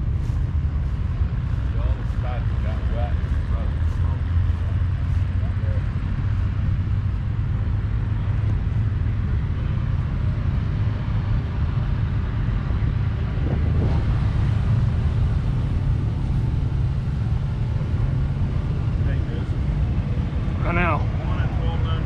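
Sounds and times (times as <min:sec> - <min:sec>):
engine running low rumble: 0:00.0 - 0:22.0.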